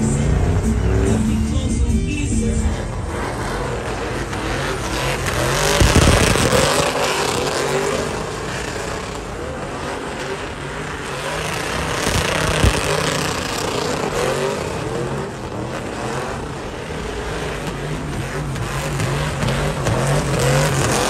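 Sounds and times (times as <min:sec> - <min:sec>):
truck engines revving hard: 0:00.0 - 0:21.0
tyres spinning on pavement: 0:00.0 - 0:21.0.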